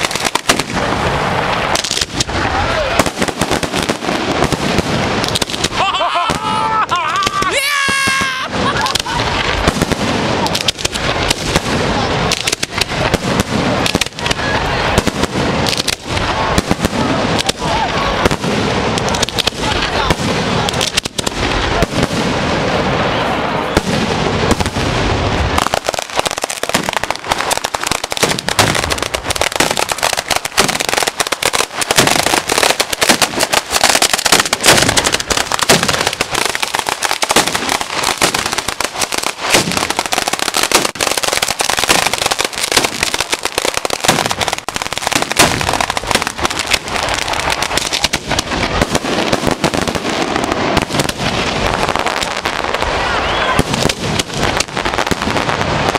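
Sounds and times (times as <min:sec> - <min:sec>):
firecracker bangs: 0:00.0 - 0:55.9.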